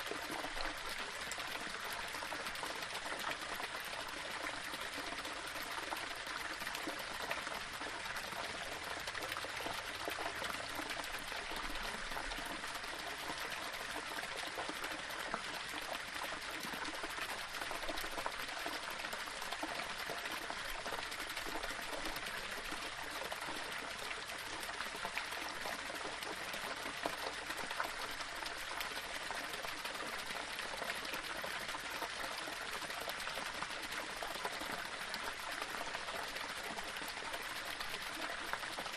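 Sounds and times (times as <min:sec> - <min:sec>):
waterfall pouring over rocks: 0:00.0 - 0:38.9.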